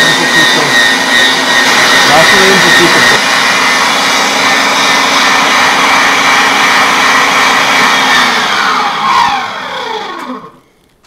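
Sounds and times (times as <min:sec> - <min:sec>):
electric meat grinder running: 0:00.0 - 0:10.7.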